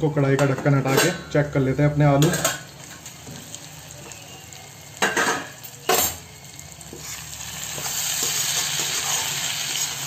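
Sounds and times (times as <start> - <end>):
potatoes sizzling: 1.4 - 10.0.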